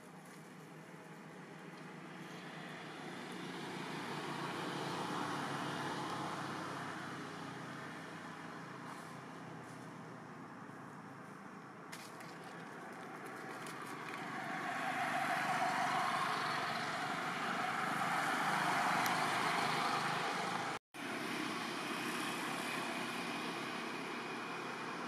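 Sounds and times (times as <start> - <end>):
motor vehicles passing: 0.3 - 25.0.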